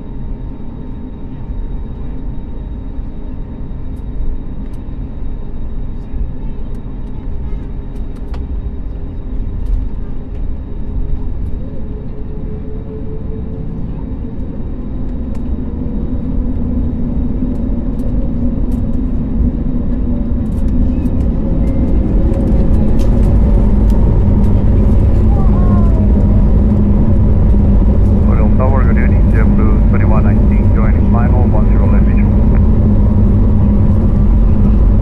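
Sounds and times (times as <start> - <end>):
jet engine rumble in cabin: 0.0 - 35.0.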